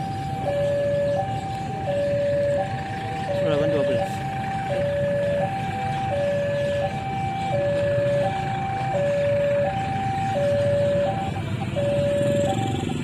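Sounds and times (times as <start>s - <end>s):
level crossing two-tone alarm: 0.0s - 13.0s.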